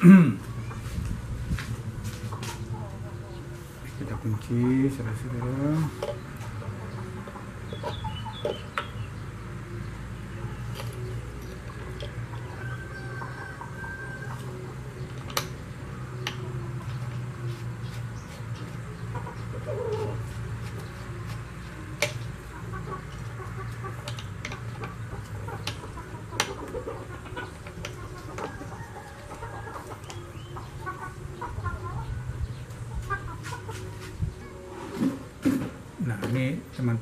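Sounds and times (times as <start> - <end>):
bird calls: 2.3 - 21.4, 22.1 - 35.2.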